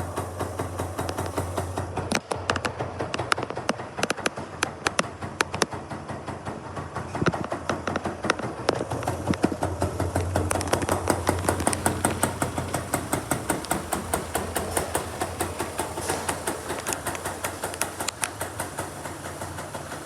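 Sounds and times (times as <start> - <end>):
two-stroke engine idling popping: 0.0 - 20.0.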